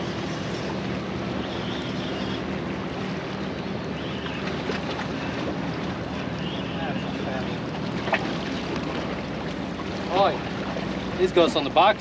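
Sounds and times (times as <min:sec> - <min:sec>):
motorboat engine droning: 0:00.0 - 0:12.0
wind: 0:00.0 - 0:12.0.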